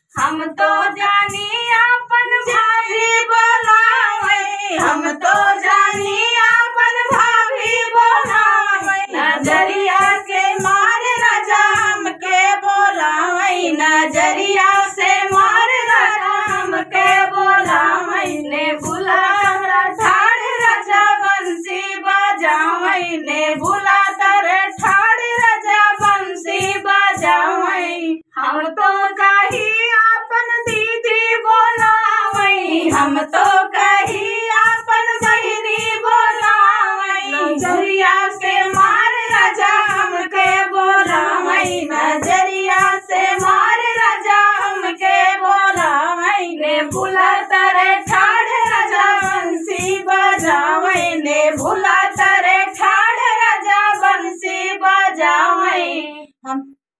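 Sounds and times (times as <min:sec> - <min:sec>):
woman singing folk song: 0:00.0 - 0:56.3
handclaps keeping beat: 0:02.4 - 0:22.8, 0:23.4 - 0:27.6, 0:29.2 - 0:45.9, 0:46.9 - 0:54.3.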